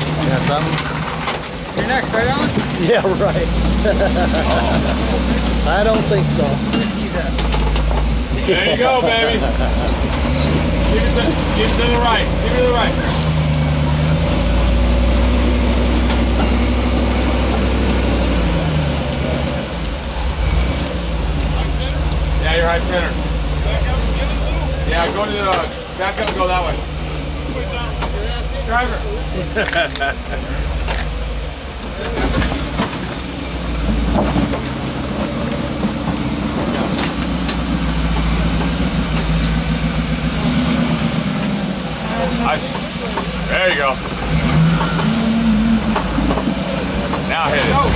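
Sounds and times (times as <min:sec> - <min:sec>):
engine running at low revs: 0:00.0 - 0:47.9.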